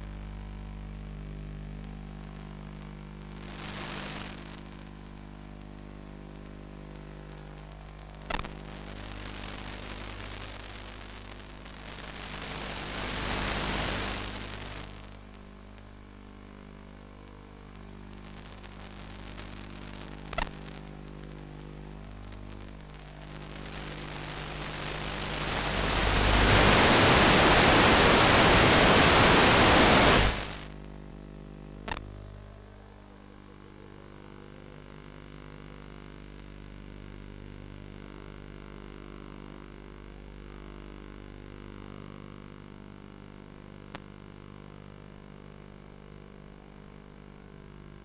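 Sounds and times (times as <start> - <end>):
low electrical hum: 0.0 - 48.0
radio static hiss: 0.0 - 48.0.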